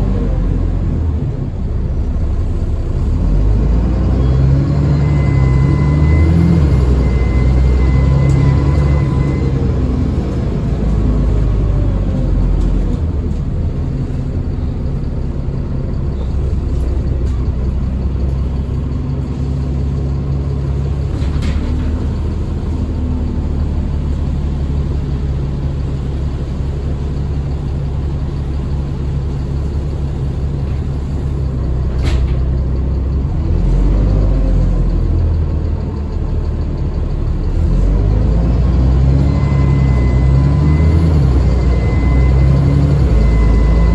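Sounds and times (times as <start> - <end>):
bus engine running: 0.0 - 43.9.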